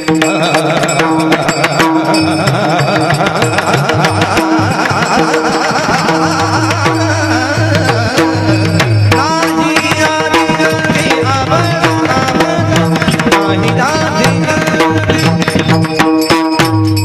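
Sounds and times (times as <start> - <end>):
hand drums and percussion: 0.0 - 17.0.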